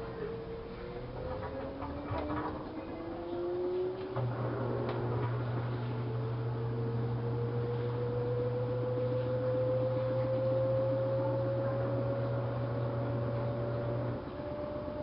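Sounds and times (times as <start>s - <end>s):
motor whine rising in pitch: 0.0s - 15.0s
washing machine hum: 0.0s - 15.0s.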